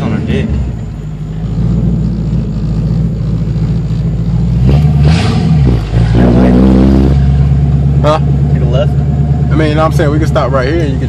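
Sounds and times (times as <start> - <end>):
loud engine exhaust revving: 0.0 - 11.0.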